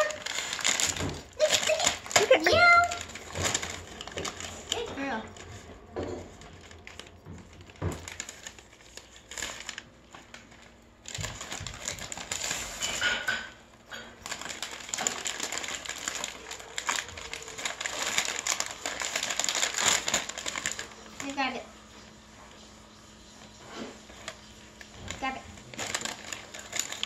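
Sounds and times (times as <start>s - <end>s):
foil wrapping paper crinkling and tearing: 0.0s - 27.0s.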